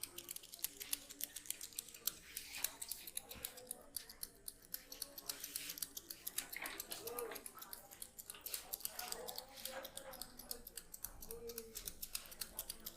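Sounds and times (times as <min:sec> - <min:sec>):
scissors snipping rapidly: 0:00.0 - 0:12.9.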